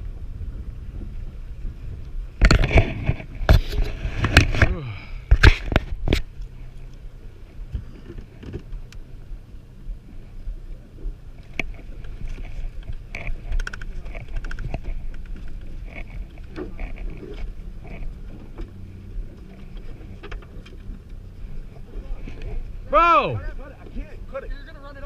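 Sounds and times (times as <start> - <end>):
boat motor humming: 0.0 - 25.0
light clicks and knocks on boat: 1.8 - 22.8.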